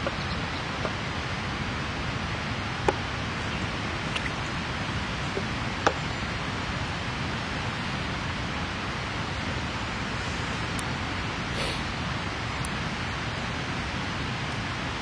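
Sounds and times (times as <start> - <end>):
campfire hissing: 0.2 - 15.0.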